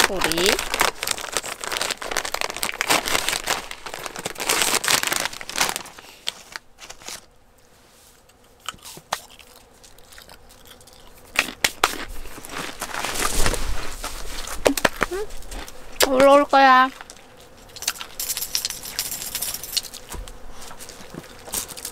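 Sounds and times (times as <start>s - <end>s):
foil snack bag crinkling: 0.0s - 7.3s, 8.7s - 21.9s
sharp crackles: 0.0s - 7.3s, 9.0s - 21.9s.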